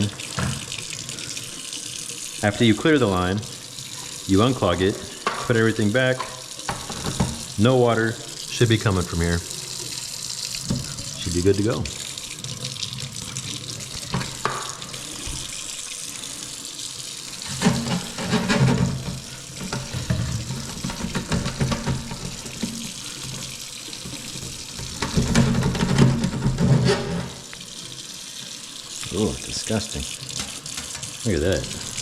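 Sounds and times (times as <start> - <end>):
water running in sink: 0.0 - 32.0.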